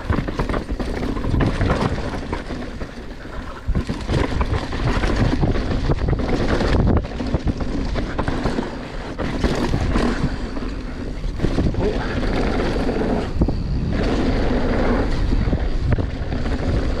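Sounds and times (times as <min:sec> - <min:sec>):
bike knocks and rattles: 0:00.0 - 0:17.0
bike rumble: 0:00.0 - 0:17.0
wind buffeting microphone: 0:00.0 - 0:17.0.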